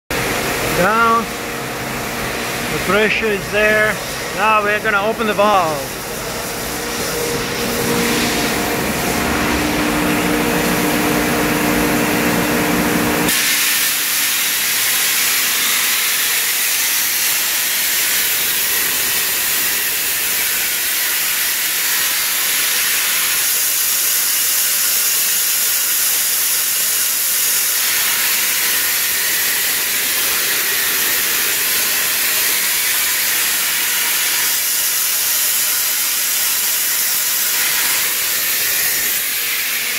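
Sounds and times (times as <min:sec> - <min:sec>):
water jet hissing: 0:02.3 - 0:11.0, 0:13.3 - 0:39.9.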